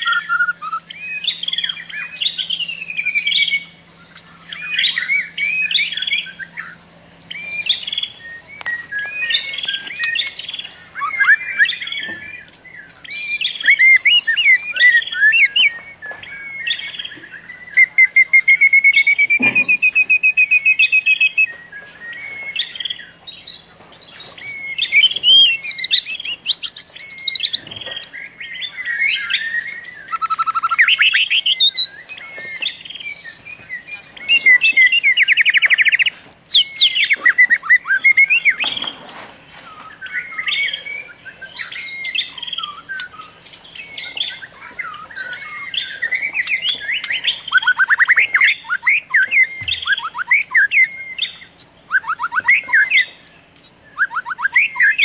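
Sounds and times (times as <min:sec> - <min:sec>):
long bird trill: 0:00.0 - 0:39.0, 0:39.6 - 0:55.0
songbirds chirping and singing: 0:00.0 - 0:55.0.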